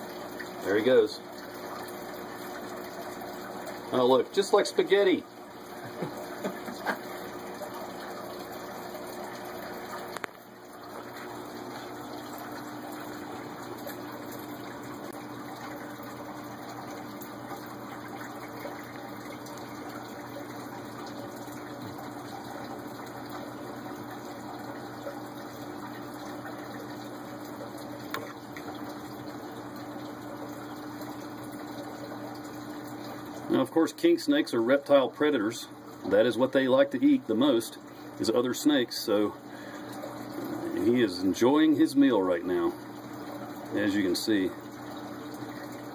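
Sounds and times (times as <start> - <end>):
low pump hum: 0.0 - 45.9
running water: 0.0 - 45.9.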